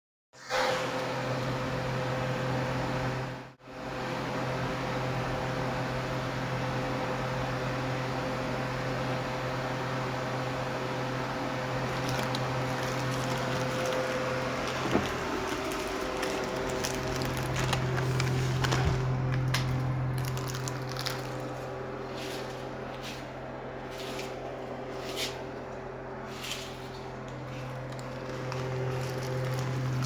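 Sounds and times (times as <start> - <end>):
steady mechanical hum: 0.5 - 30.0.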